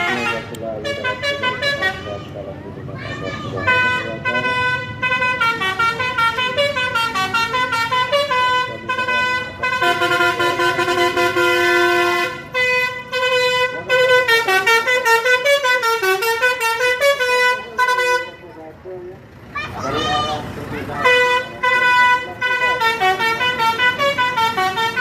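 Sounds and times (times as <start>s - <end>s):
bus musical horn tune: 0.0s - 2.5s, 3.5s - 18.6s, 21.0s - 25.0s.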